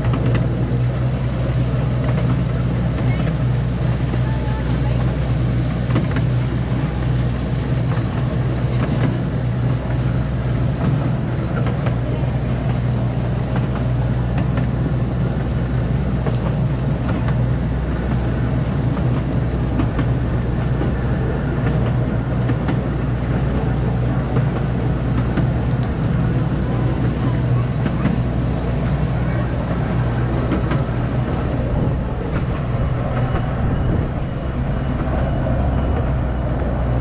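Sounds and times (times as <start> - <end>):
miniature train running on track: 0.0 - 37.0.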